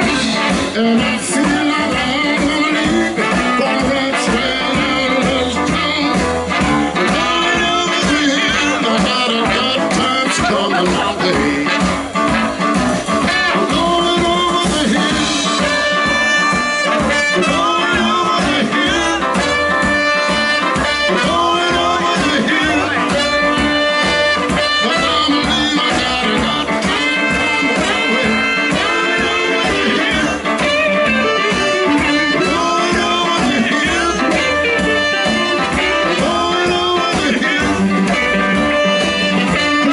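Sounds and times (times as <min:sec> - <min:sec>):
blues band with horns playing: 0:00.0 - 0:39.9.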